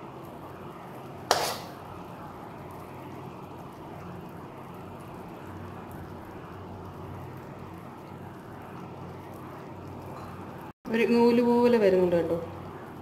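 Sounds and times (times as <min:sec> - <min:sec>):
syrup bubbling: 0:00.0 - 0:10.8.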